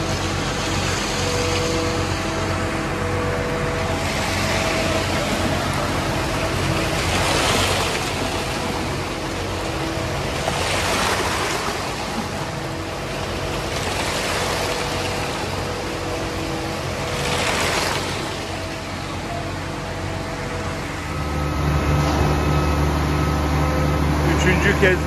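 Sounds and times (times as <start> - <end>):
truck engine running: 0.0 - 25.0
wet concrete sloshing down chute: 0.0 - 25.0.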